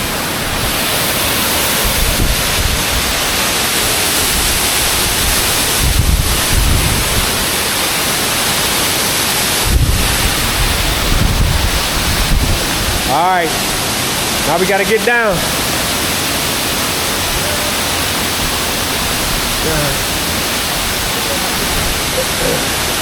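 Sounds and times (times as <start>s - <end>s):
wind buffeting microphone: 0.0s - 14.4s, 15.4s - 23.0s
waterfall rushing: 0.0s - 23.0s.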